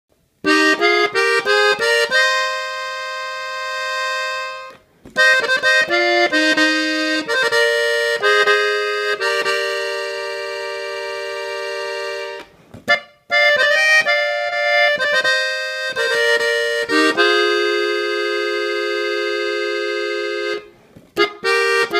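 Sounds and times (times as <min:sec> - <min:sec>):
button accordion melody: 0:00.4 - 0:21.9.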